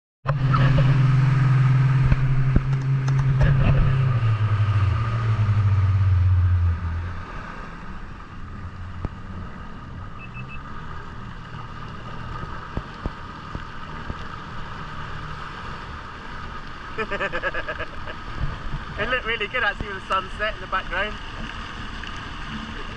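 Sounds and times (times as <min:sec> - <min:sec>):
jet ski engine: 0:00.2 - 0:22.9
water rushing past hull: 0:00.3 - 0:22.9.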